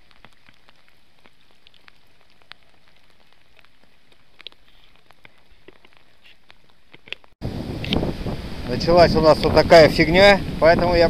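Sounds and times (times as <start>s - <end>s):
raindrops ticking close by: 0.0s - 11.0s
steady rain falling: 0.0s - 11.0s.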